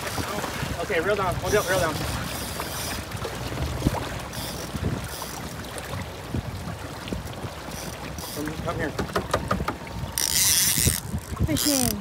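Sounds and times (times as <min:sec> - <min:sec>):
water splashing against boat: 0:00.0 - 0:12.0
wind on microphone: 0:00.0 - 0:12.0.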